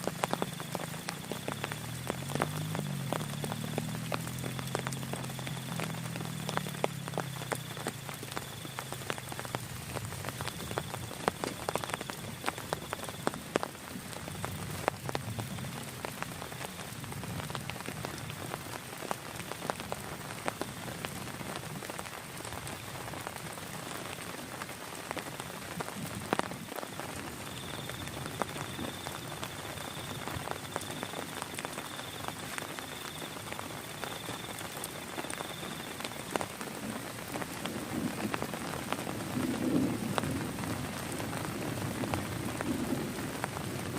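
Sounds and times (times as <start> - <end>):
raindrops ticking on surfaces: 0.0 - 43.9
steady rain falling: 0.0 - 43.9.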